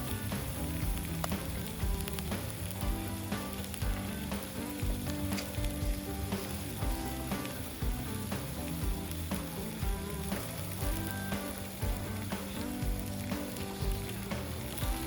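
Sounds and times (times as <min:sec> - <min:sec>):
meat sizzling on hot plate: 0:00.0 - 0:15.0.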